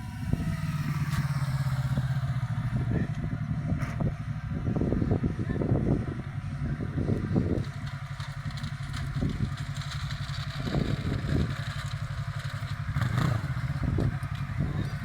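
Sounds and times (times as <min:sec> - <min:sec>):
traffic passing: 0:00.0 - 0:15.0
vehicle engine running: 0:00.0 - 0:15.0.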